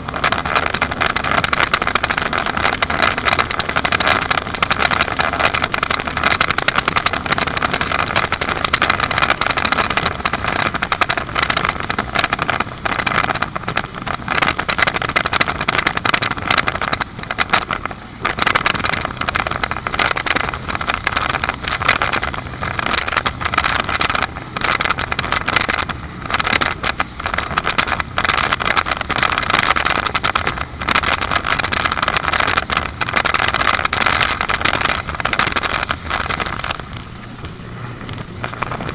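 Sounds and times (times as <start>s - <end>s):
powerboat engine and spray: 0.0s - 38.9s
wind buffeting microphone: 0.0s - 38.9s.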